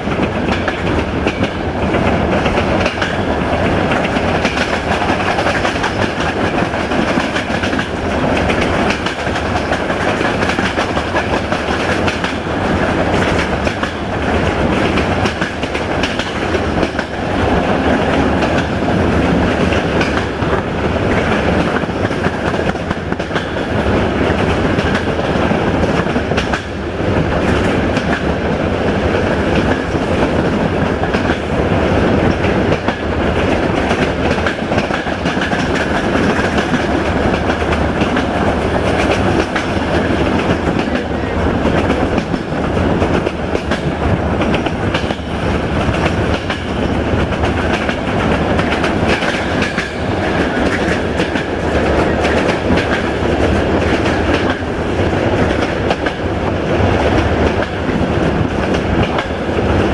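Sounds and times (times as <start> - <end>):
train rumble: 0.0 - 59.9
wheels clacking over rail joints: 0.0 - 59.9.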